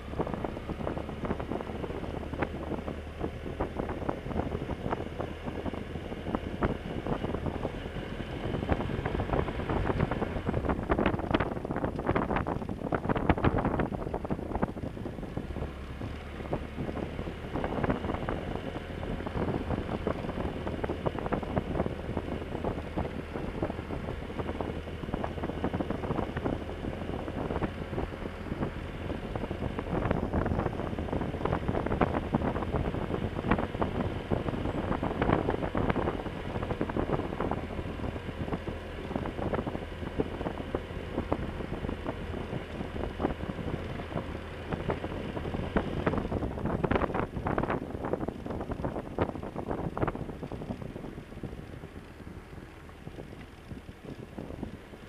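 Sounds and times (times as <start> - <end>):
gravel crackling under tyres: 0.0 - 55.0
motorcycle engine humming: 0.0 - 55.0
wind noise on microphone: 0.0 - 55.0.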